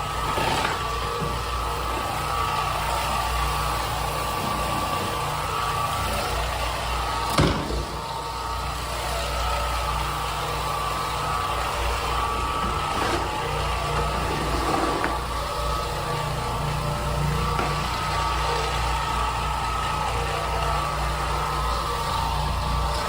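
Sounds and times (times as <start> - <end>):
floor-cleaning machine running: 0.0 - 23.0.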